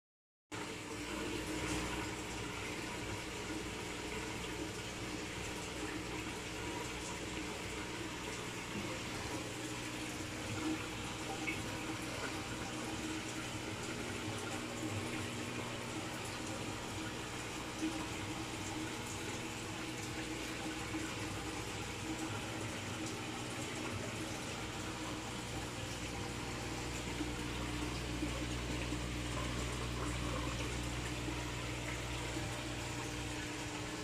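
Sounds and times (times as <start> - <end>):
aquarium water running: 0.5 - 34.0
constant low hum: 0.6 - 34.0.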